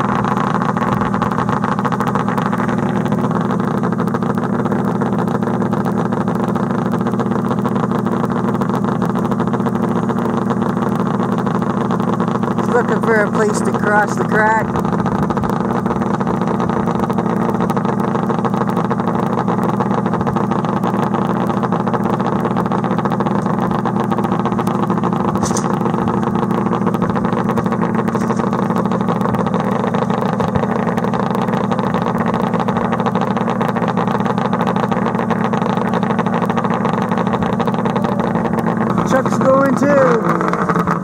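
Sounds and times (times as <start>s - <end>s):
snowmobile engine idling: 0.0s - 41.0s.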